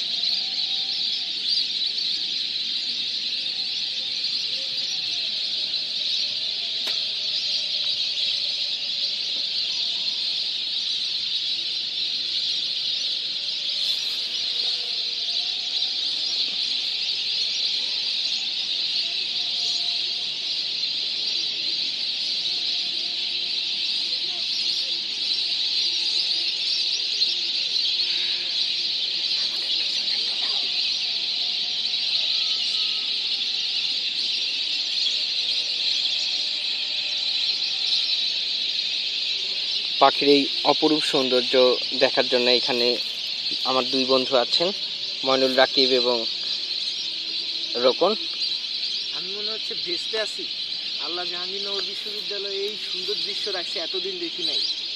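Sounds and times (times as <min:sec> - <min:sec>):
flock of birds chattering: 0:00.0 - 0:54.9.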